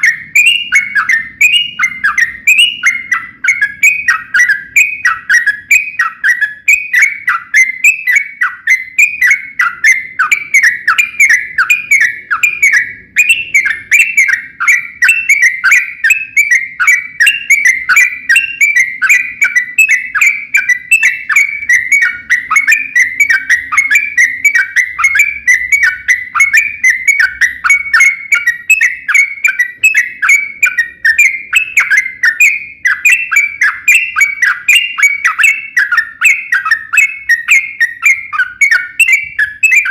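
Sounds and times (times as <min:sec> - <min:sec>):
bulbul singing whistled notes: 0:00.0 - 0:39.9.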